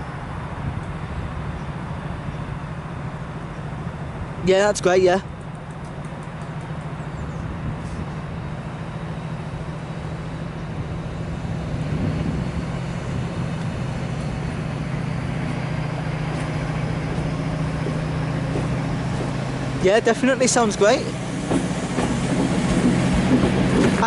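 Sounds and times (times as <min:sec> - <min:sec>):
diesel train engine droning: 0:00.0 - 0:24.0.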